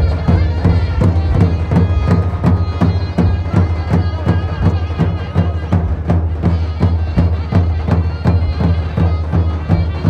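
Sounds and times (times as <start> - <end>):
drum beating steady rhythm: 0.0 - 10.0.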